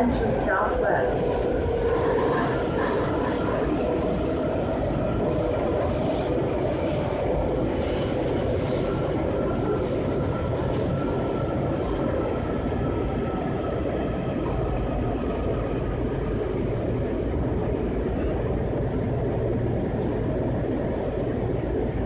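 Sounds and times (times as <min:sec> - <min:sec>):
train wheels and motors rumbling: 0:00.0 - 0:22.0.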